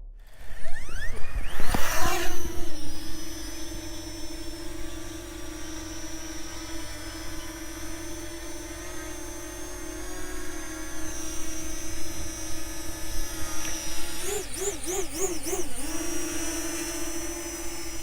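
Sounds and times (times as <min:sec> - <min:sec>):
drone rotors whining: 0:00.0 - 0:18.0.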